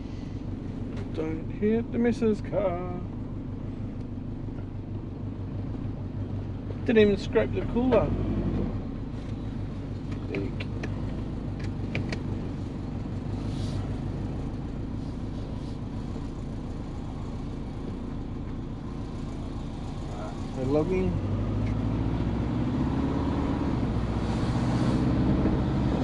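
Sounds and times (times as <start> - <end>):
car engine idling: 0.0 - 8.2, 8.8 - 22.0.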